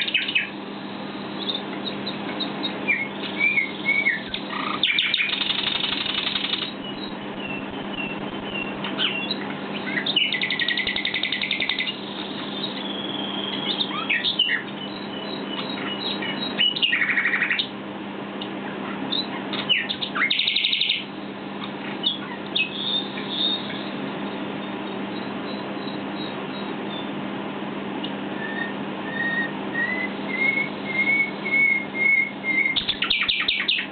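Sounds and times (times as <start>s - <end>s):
nightingale singing: 0.0s - 17.7s, 18.4s - 27.2s, 28.0s - 33.9s
steady low hum: 0.0s - 33.9s.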